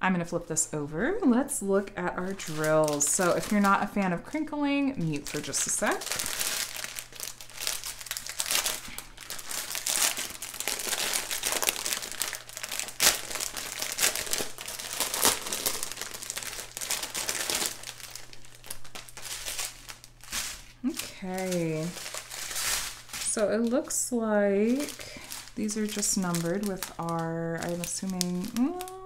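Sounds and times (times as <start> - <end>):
plastic bags crinkling: 1.6 - 29.0.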